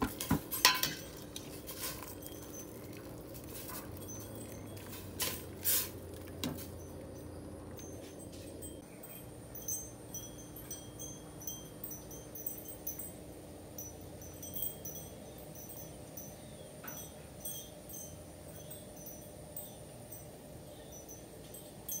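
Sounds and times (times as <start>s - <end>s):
wind chime tinkling: 0.6s - 22.0s.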